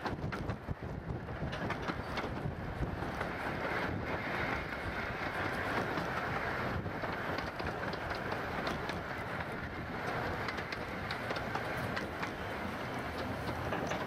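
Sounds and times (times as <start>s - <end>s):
steam locomotive running: 0.0s - 14.0s
wheels clicking on rails: 0.0s - 14.0s.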